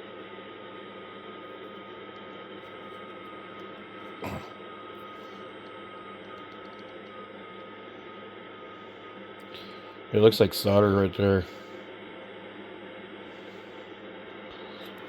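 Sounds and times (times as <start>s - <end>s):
faint high whine: 0.0s - 15.0s
low hum: 0.1s - 15.0s.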